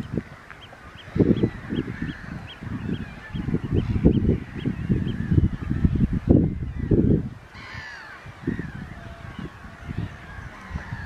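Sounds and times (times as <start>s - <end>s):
faint bird calls: 0.0s - 11.0s
wind buffeting microphone: 0.0s - 11.0s.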